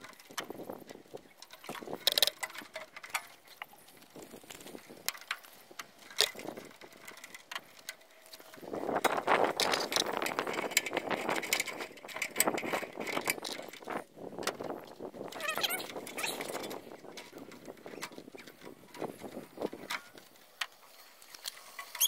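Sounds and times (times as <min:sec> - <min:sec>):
wire strippers on wire: 0:00.0 - 0:22.0.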